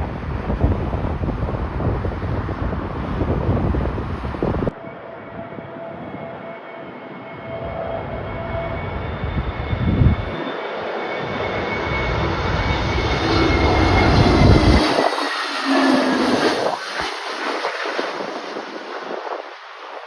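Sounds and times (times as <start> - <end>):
jet engines whining: 0.0 - 20.0
wind gusting on microphone: 0.0 - 20.0.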